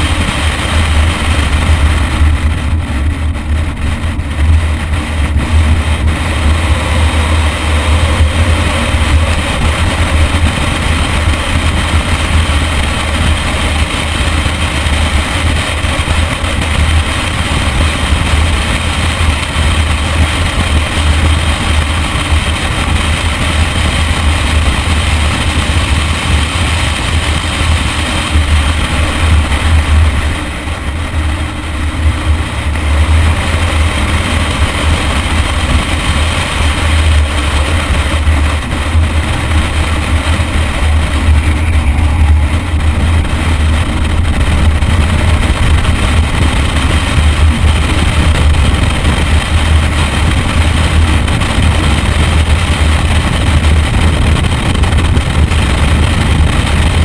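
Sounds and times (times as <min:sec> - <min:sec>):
car engine at speed: 0:00.0 - 0:57.0
wind rumble on microphone: 0:00.0 - 0:57.0.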